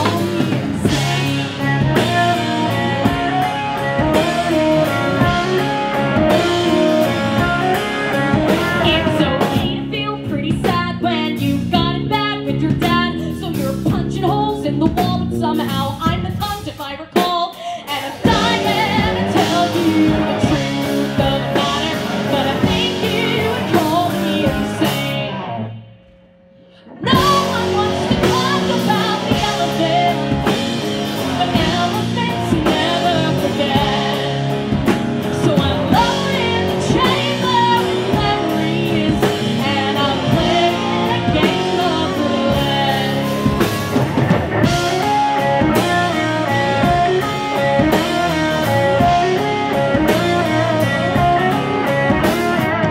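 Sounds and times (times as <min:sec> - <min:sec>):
woman singing: 0:00.0 - 0:25.5, 0:26.8 - 0:44.0
live band music: 0:00.0 - 0:25.9, 0:26.6 - 0:52.9.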